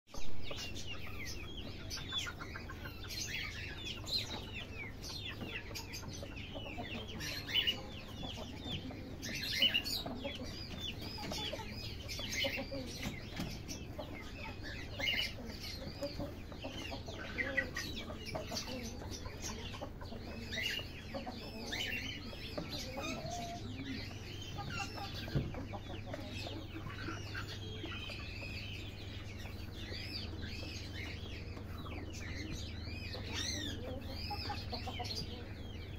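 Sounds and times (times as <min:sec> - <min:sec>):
chickens clucking: 0:00.1 - 0:35.9
high chirping calls: 0:00.1 - 0:35.9.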